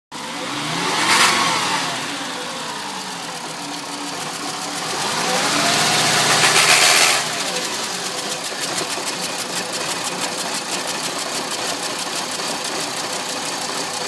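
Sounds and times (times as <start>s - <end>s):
car engine misfiring and revving: 0.2s - 14.0s.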